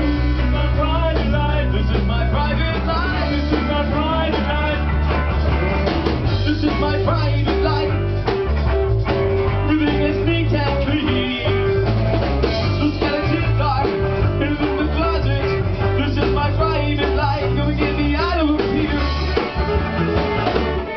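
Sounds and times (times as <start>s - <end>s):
man singing: 0.0s - 5.3s, 6.3s - 8.3s, 9.4s - 11.9s, 12.5s - 19.6s
drum kit: 0.0s - 20.9s
electric bass: 0.0s - 20.9s
electric guitar: 0.0s - 20.9s.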